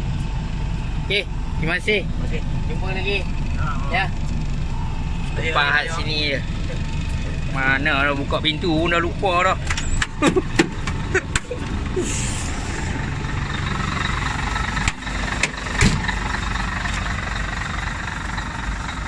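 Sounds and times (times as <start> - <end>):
diesel truck idling: 0.0 - 19.0.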